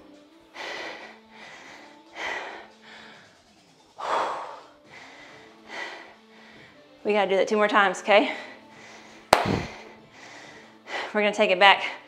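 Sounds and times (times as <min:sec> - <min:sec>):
woman breathing hard: 0:00.0 - 0:07.0, 0:08.3 - 0:11.2.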